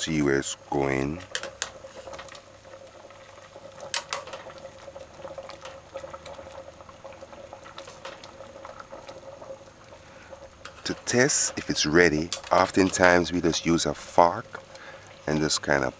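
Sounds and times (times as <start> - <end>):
water boiling in a pot: 0.0 - 15.9.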